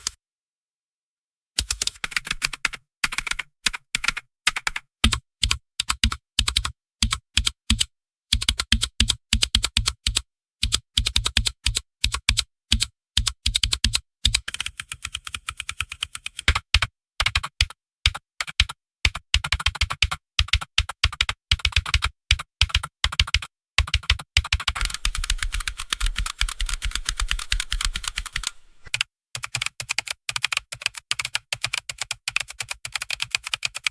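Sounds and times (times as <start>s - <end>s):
typing on computer keyboard: 1.6s - 33.9s.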